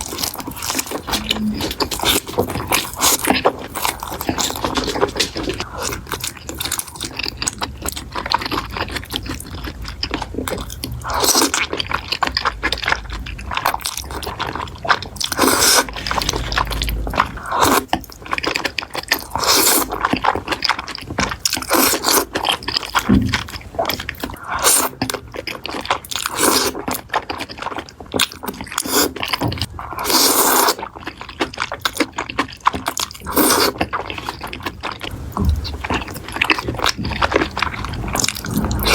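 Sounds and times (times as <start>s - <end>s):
chewing and crunching: 0.0s - 38.9s.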